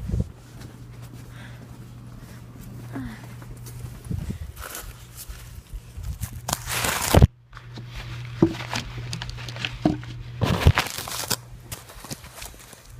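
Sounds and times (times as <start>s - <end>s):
footsteps crunching through snow: 0.0s - 12.9s
scuffing and rustling: 0.0s - 12.9s.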